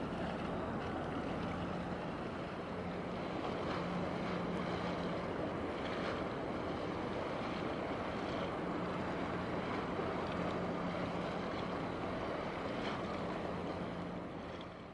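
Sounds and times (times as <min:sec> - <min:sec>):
low ship engine hum: 0:00.0 - 0:14.9
water noise: 0:00.0 - 0:14.9.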